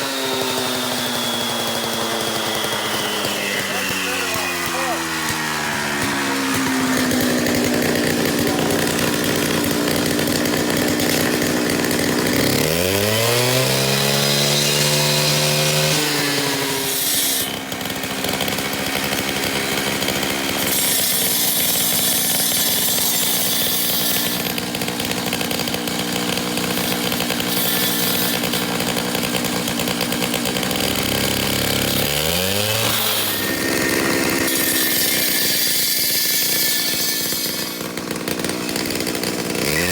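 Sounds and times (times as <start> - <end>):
concrete saw cutting concrete: 0.0 - 39.9.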